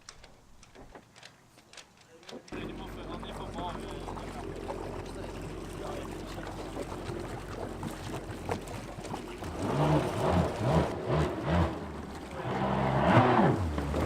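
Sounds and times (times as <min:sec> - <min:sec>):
water splashing around hull: 0:00.0 - 0:14.0
jet ski engine running: 0:02.5 - 0:14.0.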